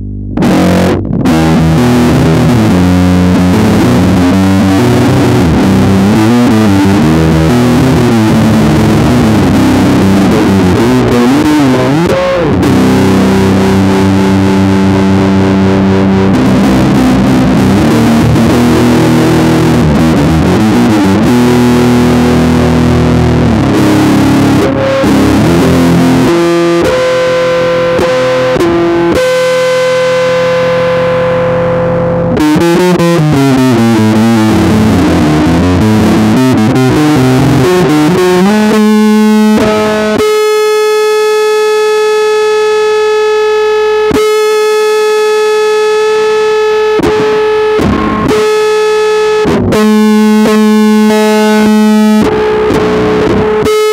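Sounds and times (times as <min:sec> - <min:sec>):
distorted metal music: 0:00.0 - 0:53.9
electric bass played fingerstyle: 0:00.0 - 0:53.9.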